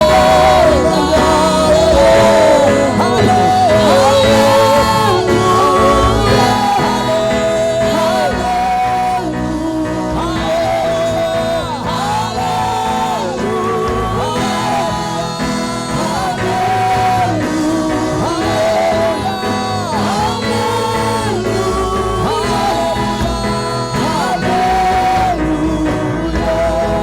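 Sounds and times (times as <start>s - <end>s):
instrumental backing: 0.0s - 27.0s
person singing with vibrato: 0.0s - 27.0s.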